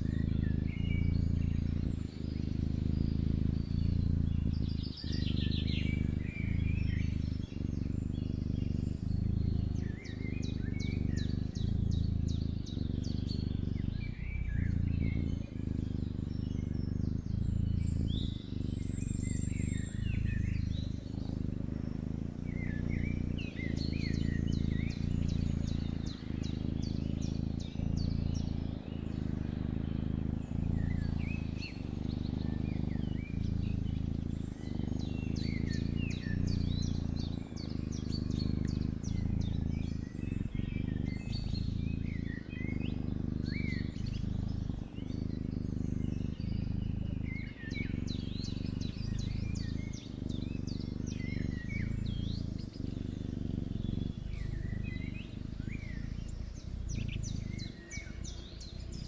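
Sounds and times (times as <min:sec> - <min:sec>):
cat purring: 0:00.0 - 0:59.0
small birds chirping: 0:00.0 - 0:59.0.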